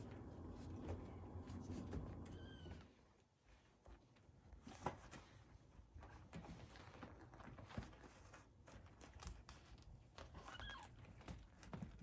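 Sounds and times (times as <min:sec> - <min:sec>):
cats rustling on carpet: 0:00.1 - 0:12.0.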